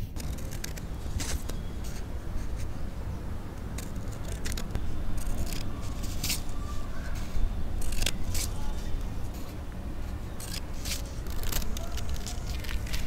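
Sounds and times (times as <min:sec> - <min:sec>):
scissors snipping paper: 0:00.0 - 0:02.9, 0:03.5 - 0:13.0.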